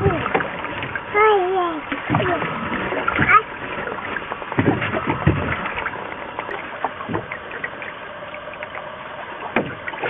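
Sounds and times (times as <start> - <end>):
small splashes: 0.0 - 10.0
water lapping at paddle and hull: 0.0 - 10.0.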